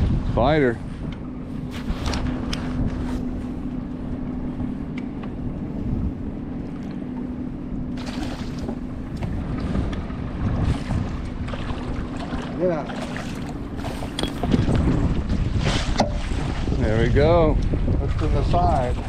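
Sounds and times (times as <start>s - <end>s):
boat motor running: 0.0s - 19.0s
wind buffeting microphone: 0.0s - 19.0s.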